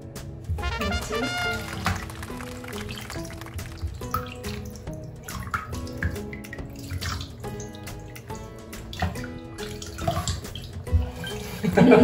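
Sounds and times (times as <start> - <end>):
background music: 0.0 - 12.0
water splashing in a basin: 0.6 - 11.7.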